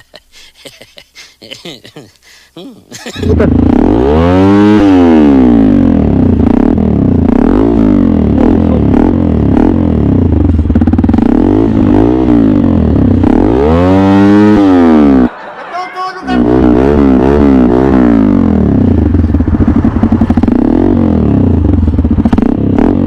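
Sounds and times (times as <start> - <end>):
motorcycle engine revving: 3.0 - 15.4, 16.3 - 23.0.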